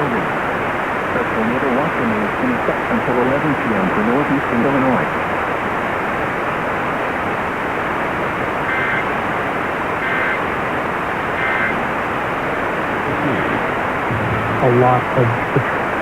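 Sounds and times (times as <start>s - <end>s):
radio static hiss: 0.0s - 6.0s, 8.0s - 16.0s.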